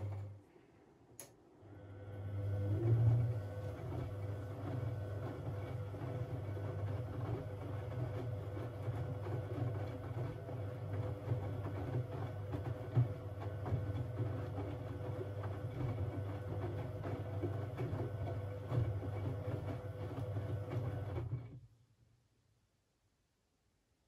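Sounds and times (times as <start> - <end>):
washing machine motor hum: 0.0 - 0.5, 1.2 - 21.6.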